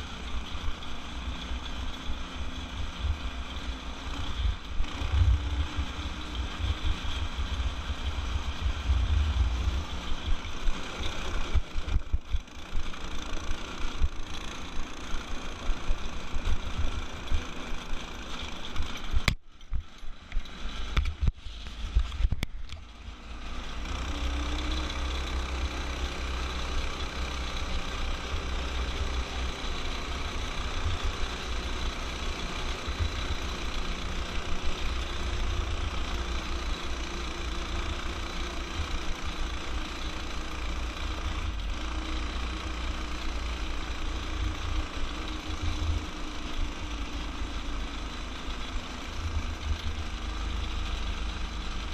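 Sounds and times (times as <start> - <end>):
small go-kart engine running: 0.0 - 51.9.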